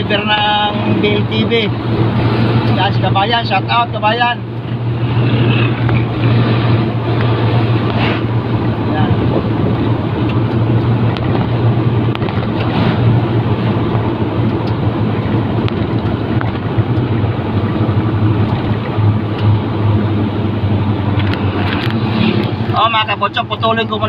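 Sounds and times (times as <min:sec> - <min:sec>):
road and tyre noise: 0:00.0 - 0:24.0
truck engine droning: 0:00.0 - 0:24.0.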